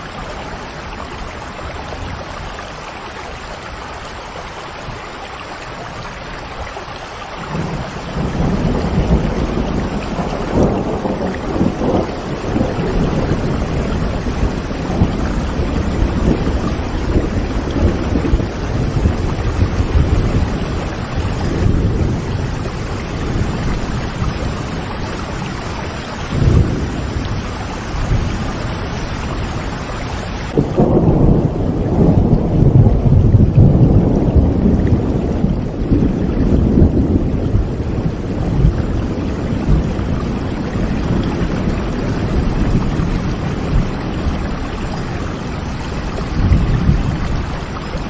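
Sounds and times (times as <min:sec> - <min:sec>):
steady rain: 0:00.0 - 0:48.0
rolling thunder: 0:07.4 - 0:48.0.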